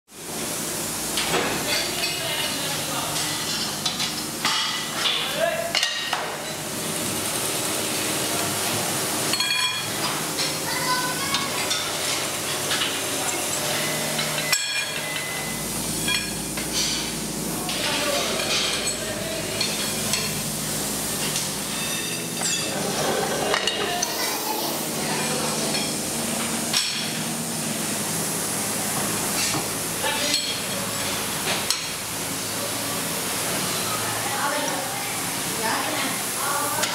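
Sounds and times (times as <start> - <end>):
machinery hum: 6.4 - 36.8.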